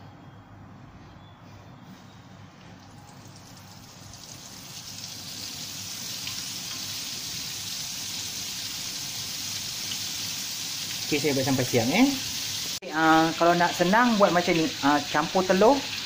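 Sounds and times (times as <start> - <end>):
fish deep-frying in oil: 2.8 - 16.0.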